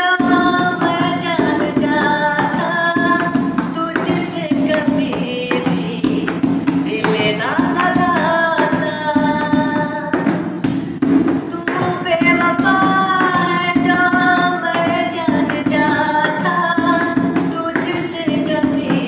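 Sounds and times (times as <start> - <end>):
man singing: 0.0 - 10.4, 11.5 - 19.0.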